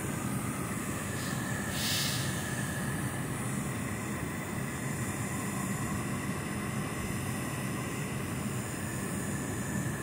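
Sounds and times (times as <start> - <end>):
faint steady whine: 0.0 - 10.0.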